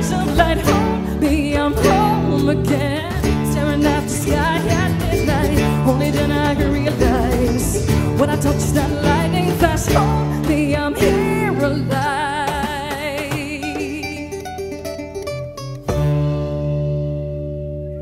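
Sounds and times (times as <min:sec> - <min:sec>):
acoustic folk-rock band: 0:00.0 - 0:18.0.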